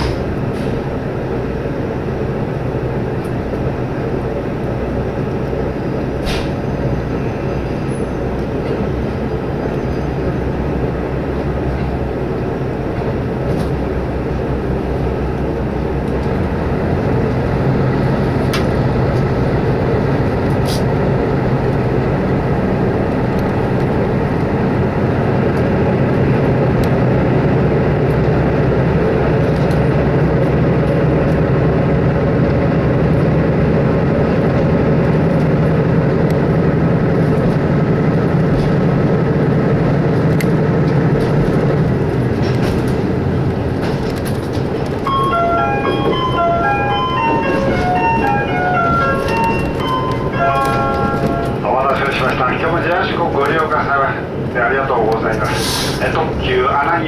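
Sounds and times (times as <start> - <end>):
railcar running hum and rumble: 0.0 - 57.0.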